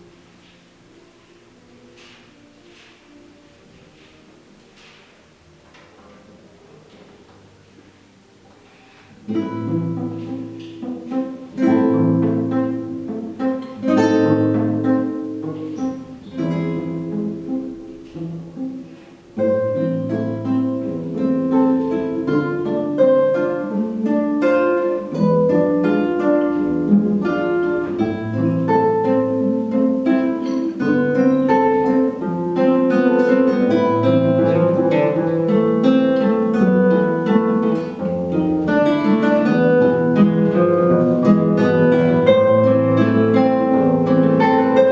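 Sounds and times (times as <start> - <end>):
acoustic guitar duet: 0.0 - 44.9.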